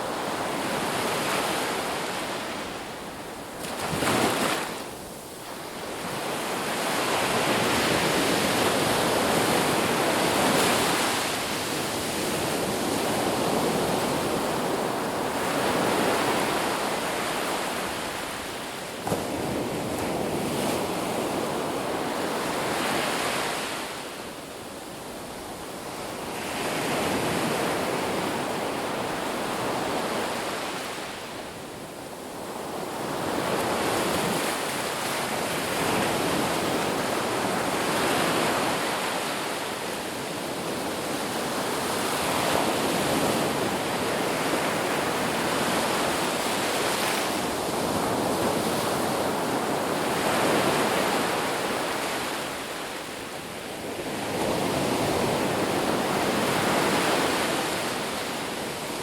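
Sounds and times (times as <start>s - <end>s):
waves washing onto shore: 0.0s - 59.0s.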